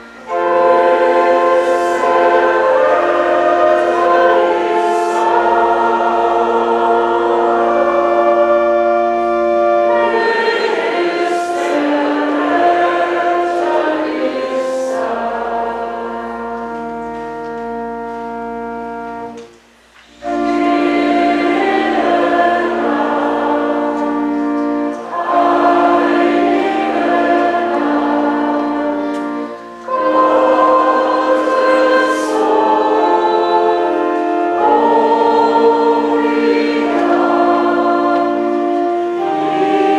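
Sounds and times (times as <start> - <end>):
choir singing a hymn: 0.0 - 19.5, 20.1 - 39.9
sustained accompaniment with bass: 0.0 - 39.9.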